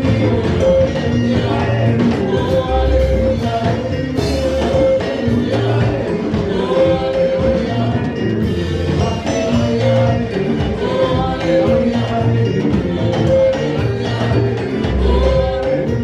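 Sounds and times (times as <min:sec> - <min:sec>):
bass line: 0:00.0 - 0:16.0
drum beats: 0:00.0 - 0:16.0
person singing: 0:00.0 - 0:16.0
worship band music: 0:00.0 - 0:16.0.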